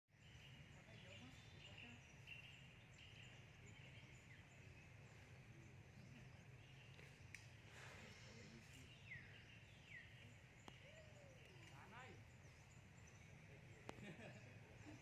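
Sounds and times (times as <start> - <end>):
high chirps of small birds: 0.1 - 15.0.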